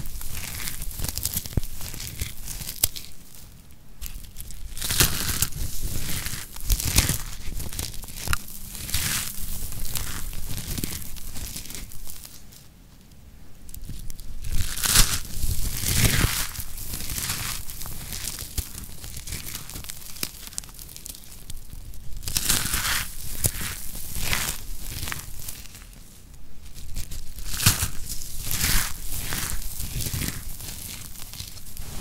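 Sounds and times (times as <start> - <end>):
soap curls crunching in hands: 0.0 - 12.8, 13.6 - 32.0.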